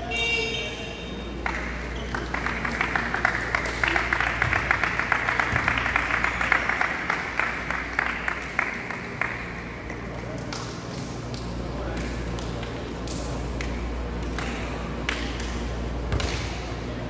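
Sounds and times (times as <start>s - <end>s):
group of people clapping: 1.4s - 16.6s.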